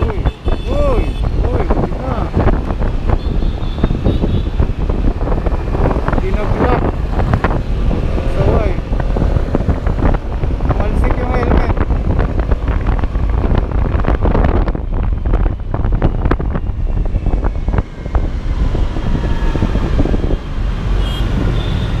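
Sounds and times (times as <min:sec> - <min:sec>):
road and engine rumble: 0:00.0 - 0:22.0
wind buffeting microphone: 0:00.0 - 0:22.0.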